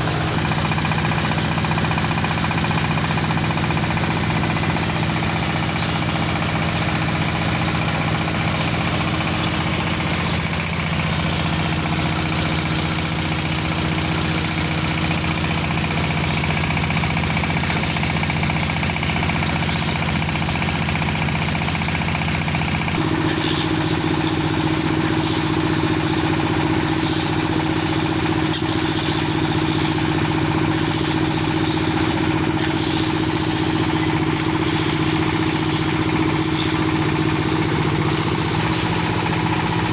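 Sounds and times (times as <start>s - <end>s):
dowel machine humming: 0.0s - 39.9s.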